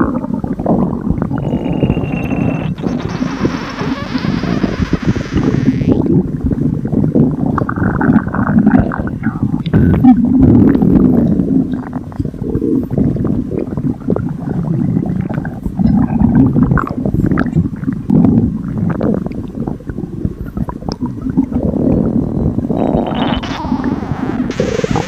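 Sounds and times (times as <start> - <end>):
stomach rumbling and gurgling: 0.0 - 25.0.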